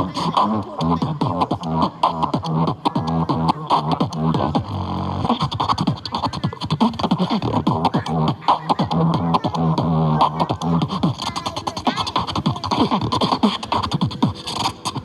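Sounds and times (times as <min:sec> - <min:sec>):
beatboxing: 0:00.0 - 0:15.0.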